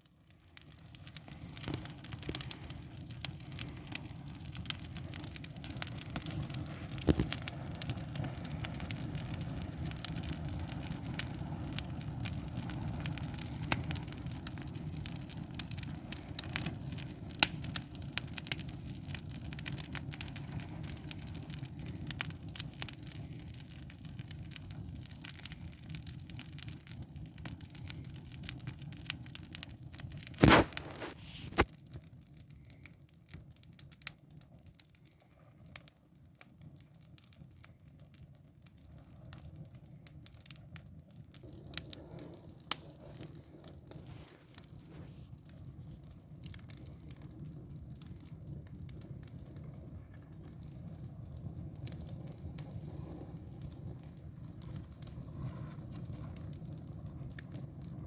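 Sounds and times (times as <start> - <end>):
fire crackling in fireplace: 0.0 - 58.0.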